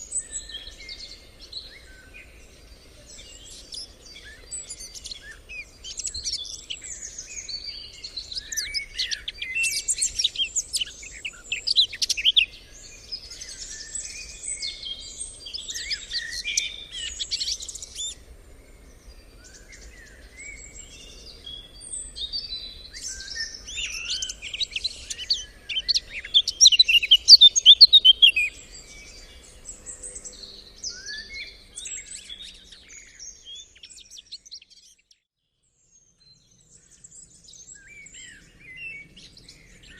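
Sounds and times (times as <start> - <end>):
birds singing and chirping: 0.0 - 35.3, 35.9 - 39.9.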